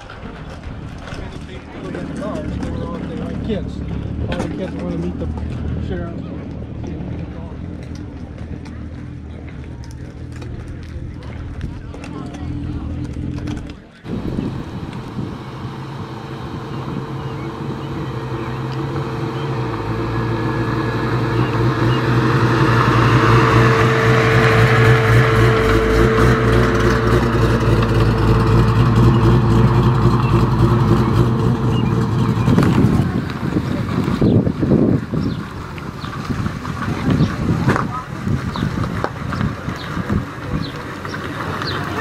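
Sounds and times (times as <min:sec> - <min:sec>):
car engines running at low speed: 0:00.0 - 0:42.0
tyres rolling on gravel: 0:00.0 - 0:42.0.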